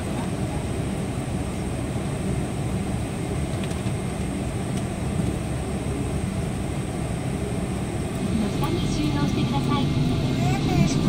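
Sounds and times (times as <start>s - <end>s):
airliner cabin low rumble: 0.0s - 11.0s.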